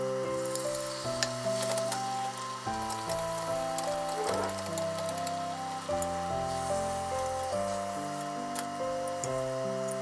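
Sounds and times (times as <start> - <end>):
food sizzling in frying: 0.0 - 10.0
gentle background music: 0.0 - 10.0.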